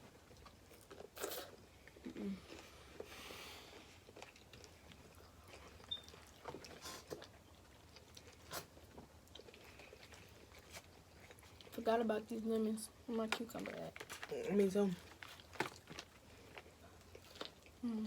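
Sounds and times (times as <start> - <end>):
chewing: 0.0 - 11.9, 13.6 - 17.8.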